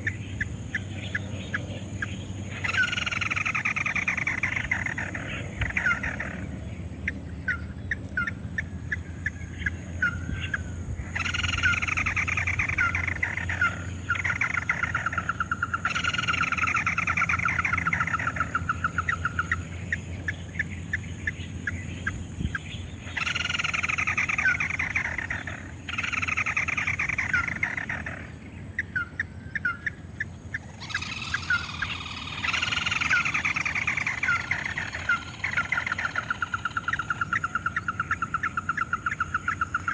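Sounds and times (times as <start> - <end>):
crake calling: 0.0 - 39.9
steady low hum: 0.0 - 39.9.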